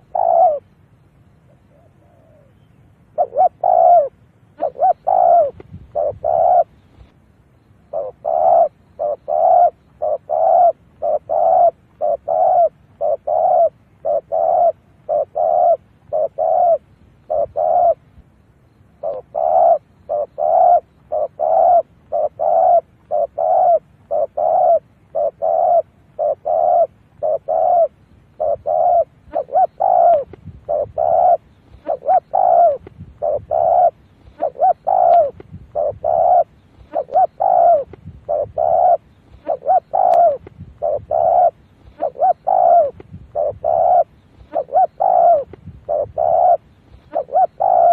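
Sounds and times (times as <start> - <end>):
dove cooing: 0.0 - 0.8, 1.4 - 7.1, 7.8 - 18.2, 19.0 - 47.9.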